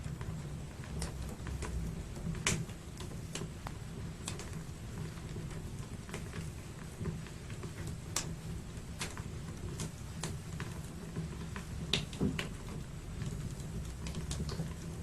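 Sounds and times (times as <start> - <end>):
low fire rumble: 0.0 - 15.0
wood fire crackling pops: 0.0 - 15.0.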